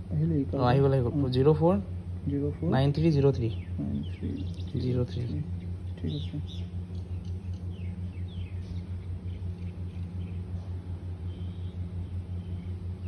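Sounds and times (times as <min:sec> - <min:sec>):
birds chirping faintly: 0:00.0 - 0:13.0
motorcycle engine idling: 0:00.0 - 0:13.0.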